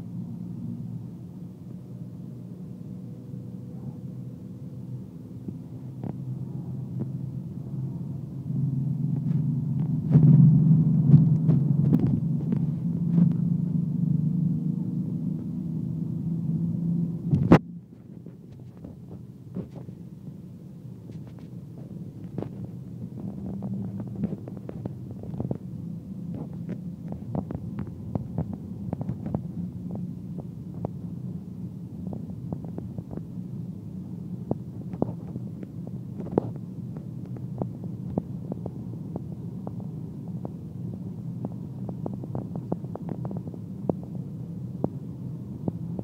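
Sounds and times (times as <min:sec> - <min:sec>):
car cabin engine and road drone: 0:00.0 - 0:46.0.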